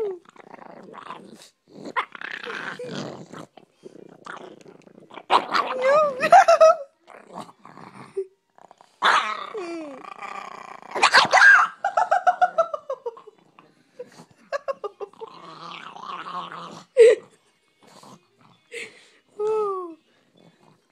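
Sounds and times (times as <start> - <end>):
dog growling and barking: 0.0 - 18.7.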